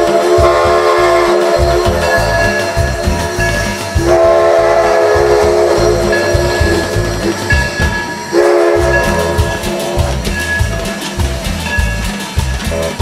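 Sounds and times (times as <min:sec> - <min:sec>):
train horn blasts: 0:00.0 - 0:11.1
background music with steady beat: 0:00.0 - 0:13.0.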